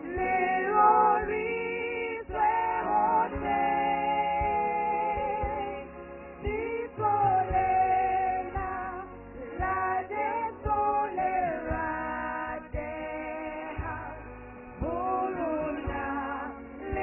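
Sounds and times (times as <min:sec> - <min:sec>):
women singing gospel in harmony: 0:00.0 - 0:17.0.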